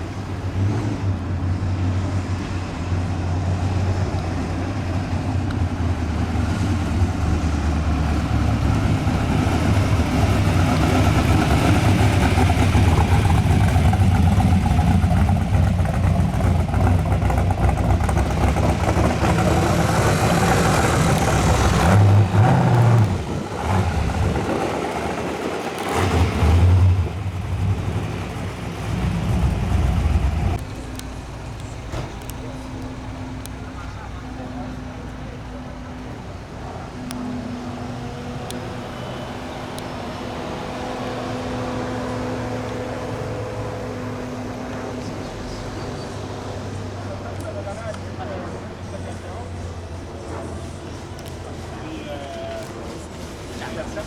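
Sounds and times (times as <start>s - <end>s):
car engines running: 0.0s - 54.0s.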